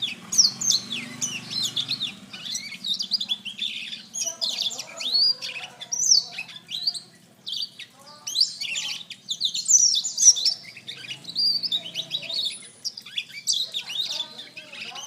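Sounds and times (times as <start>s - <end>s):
bird singing twittering song: 0.0s - 15.0s.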